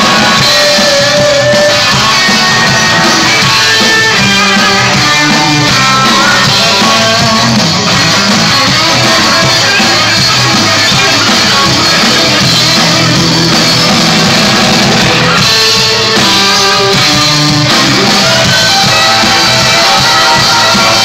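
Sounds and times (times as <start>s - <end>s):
live band playing loudly: 0.0s - 21.0s.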